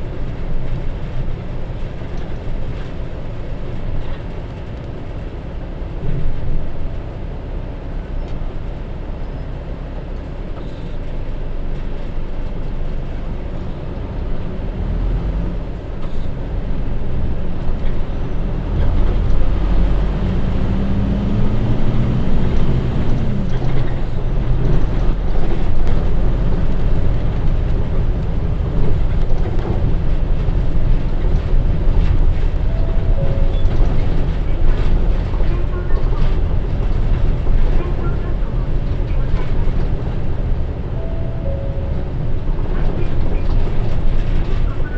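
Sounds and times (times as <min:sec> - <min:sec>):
bus diesel engine: 0:00.0 - 0:44.9.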